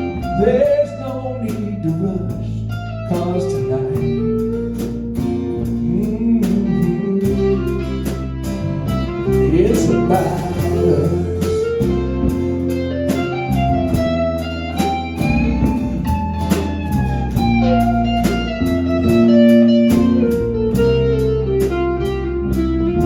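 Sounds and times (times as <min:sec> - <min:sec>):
country band instrumental: 0:00.0 - 0:23.0
sliding guitar melody: 0:00.0 - 0:23.0.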